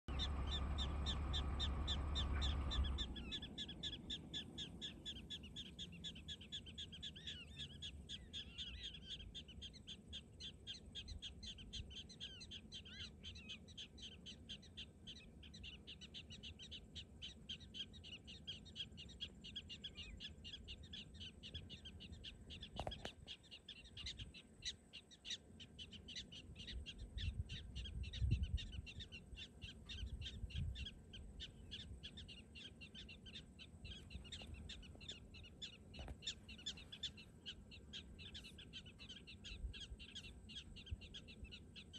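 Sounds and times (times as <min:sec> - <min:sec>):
prairie dogs chirping barks: 0:00.1 - 0:41.9.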